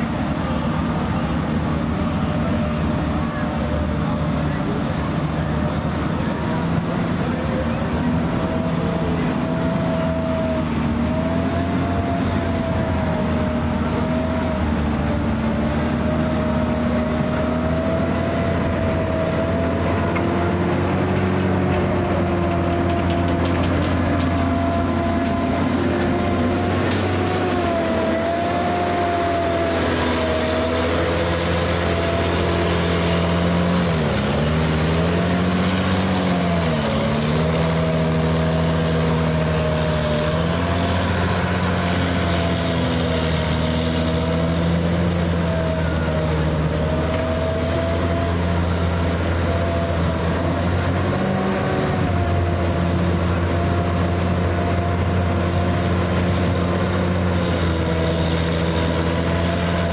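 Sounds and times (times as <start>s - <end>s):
tank engine droning: 0.0s - 59.9s.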